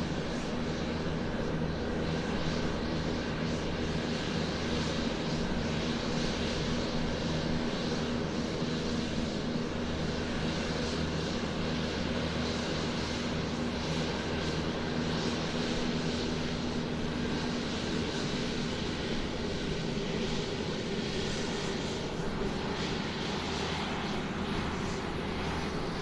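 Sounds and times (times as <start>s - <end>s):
airplane engine hum: 0.0s - 26.0s.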